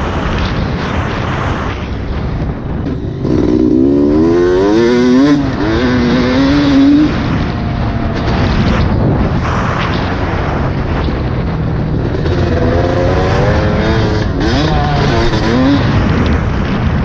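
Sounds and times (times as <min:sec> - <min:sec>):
dirt bike engine revving: 0:02.8 - 0:17.0.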